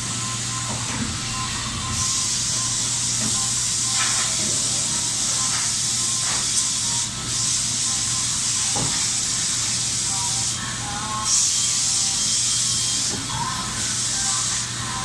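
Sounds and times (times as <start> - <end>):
coolant spray hiss: 2.0 - 15.0.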